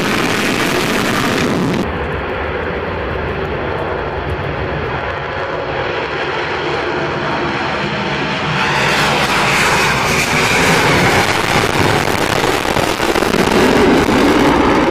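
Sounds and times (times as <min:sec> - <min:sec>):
jet engines at full afterburner: 0:00.0 - 0:14.9.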